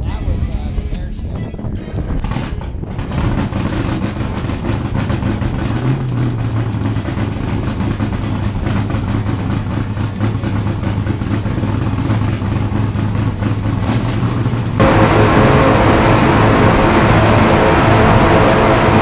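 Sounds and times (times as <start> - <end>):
boat engines idling: 0.0 - 19.0.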